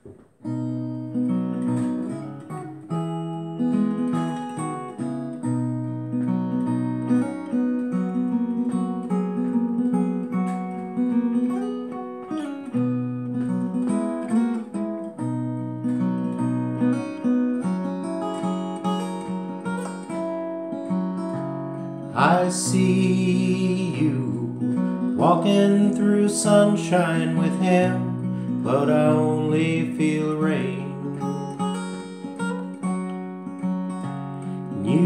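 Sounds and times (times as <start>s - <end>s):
fingerpicked acoustic guitar: 0.0s - 35.0s.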